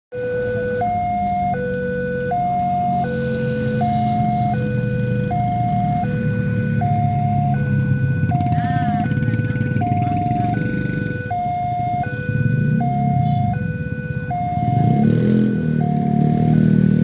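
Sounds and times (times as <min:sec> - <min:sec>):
two-tone level crossing alarm: 0:00.1 - 0:17.0.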